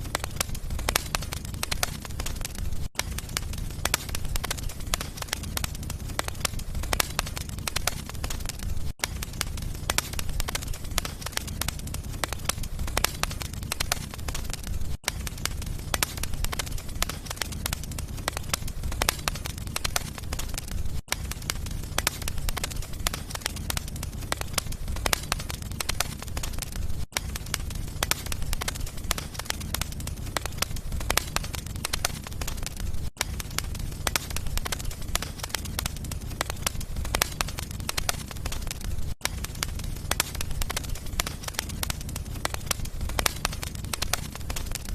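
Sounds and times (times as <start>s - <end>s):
low rumble of flame: 0.0s - 44.9s
wood fire crackling and popping: 0.0s - 44.9s.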